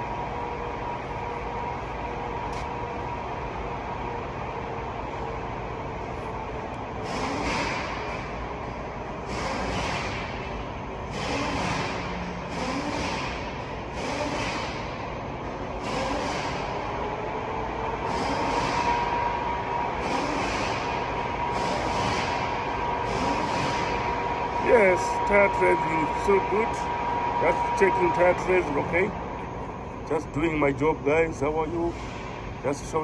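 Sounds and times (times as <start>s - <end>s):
steady whine: 0.0s - 33.0s.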